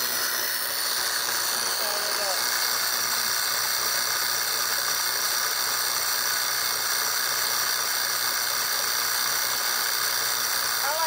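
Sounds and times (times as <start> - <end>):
food processor running: 0.0 - 11.0.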